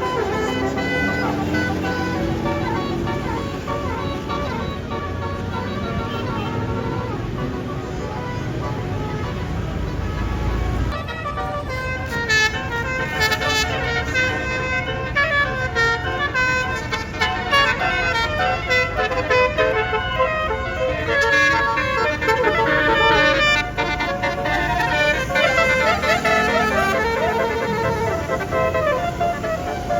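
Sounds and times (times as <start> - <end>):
multi-note bus horn tune: 0.0 - 29.9
vehicle engine rumble: 0.0 - 29.9.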